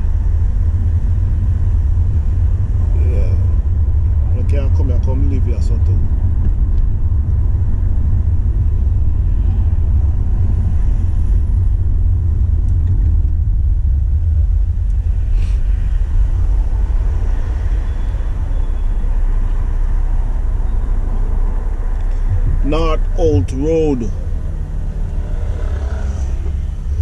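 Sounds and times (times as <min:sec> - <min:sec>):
car driving on road: 0:00.0 - 0:27.0.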